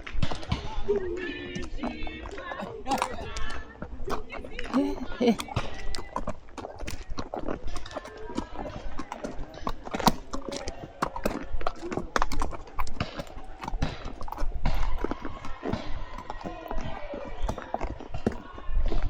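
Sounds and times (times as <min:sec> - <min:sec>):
faint voices: 0:00.0 - 0:19.0
horse hooves clip-clopping: 0:00.0 - 0:19.0.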